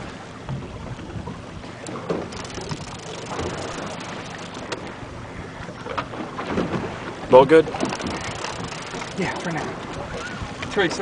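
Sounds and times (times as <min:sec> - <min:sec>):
boat engine hum: 0:00.0 - 0:11.0
wind noise on microphone: 0:00.4 - 0:10.8.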